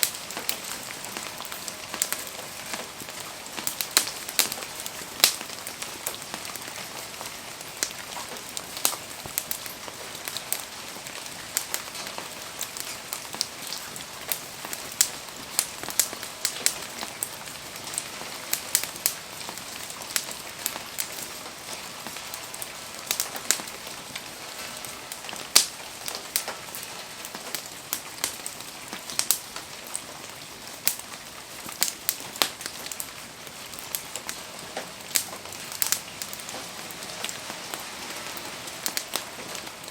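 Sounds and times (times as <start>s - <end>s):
campfire ticks and pops: 0.0s - 37.4s, 38.8s - 39.7s
rain hissing: 0.0s - 39.9s.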